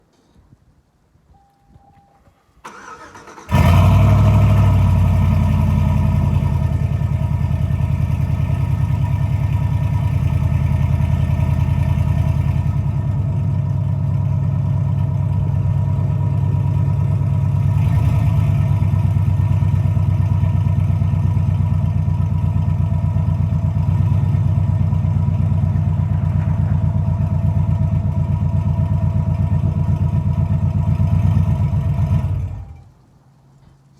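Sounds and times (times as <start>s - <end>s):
truck engine starting and idling: 2.6s - 33.1s.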